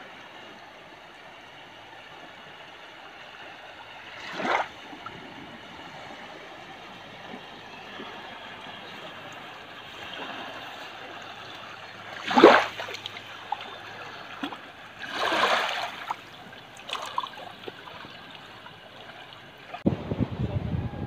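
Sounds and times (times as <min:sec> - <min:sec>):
small waves lapping on sand and pebbles: 0:00.0 - 0:19.8.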